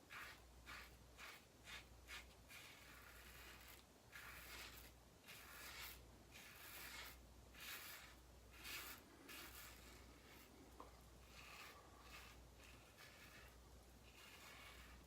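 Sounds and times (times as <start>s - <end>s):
razor scraping stubble: 0.0s - 15.0s.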